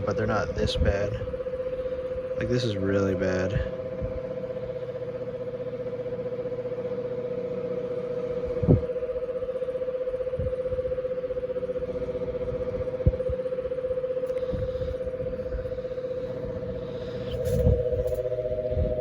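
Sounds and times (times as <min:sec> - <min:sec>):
electric fan humming and throbbing: 0:00.0 - 0:19.0.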